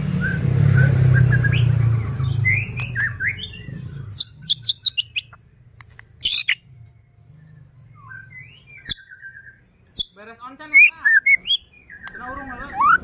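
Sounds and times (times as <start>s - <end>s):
bird singing with whistles and clicks: 0.0s - 13.0s.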